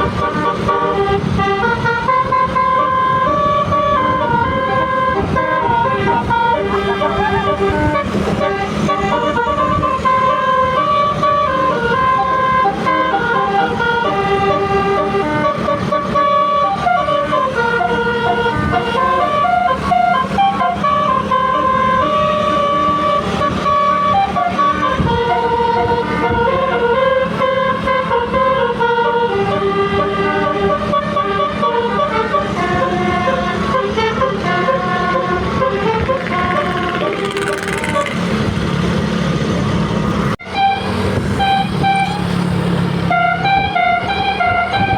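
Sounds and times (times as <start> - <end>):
musical bus horn melody: 0.0 - 39.1, 40.1 - 44.9.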